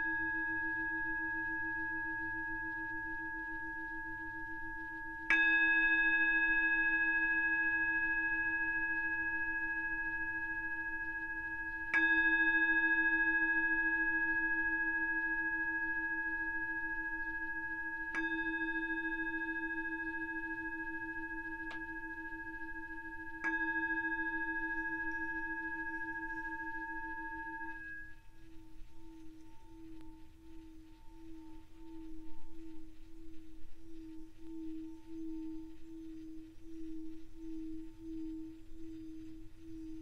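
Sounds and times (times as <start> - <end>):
singing bowl struck and ringing: 0.0 - 40.0.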